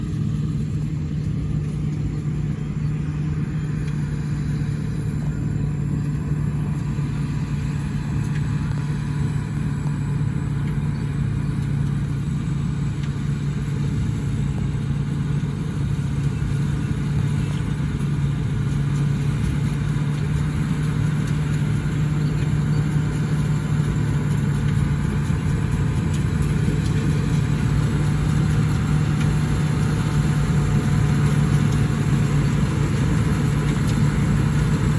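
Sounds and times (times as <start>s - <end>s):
combine harvester engine humming: 0.0s - 34.9s.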